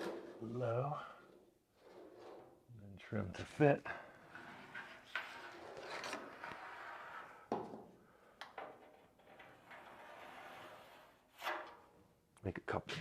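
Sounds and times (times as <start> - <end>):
rubbing and scraping: 0.0 - 7.5, 8.8 - 12.0.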